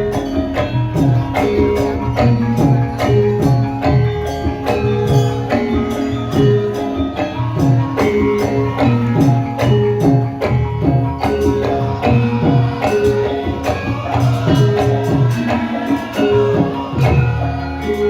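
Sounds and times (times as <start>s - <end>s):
ringing metal notes: 0.0s - 18.0s.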